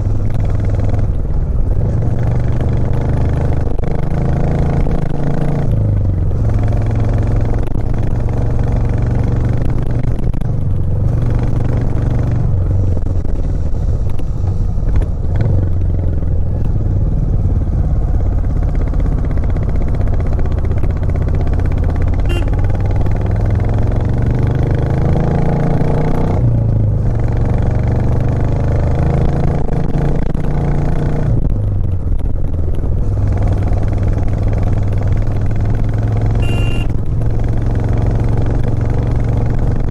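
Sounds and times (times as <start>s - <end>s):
motorcycle engine pulling uphill: 0.0s - 39.9s.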